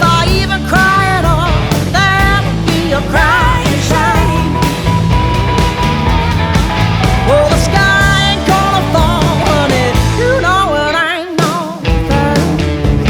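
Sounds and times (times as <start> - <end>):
bending lead guitar notes: 0.0 - 13.0
country-rock band playing: 0.0 - 13.0.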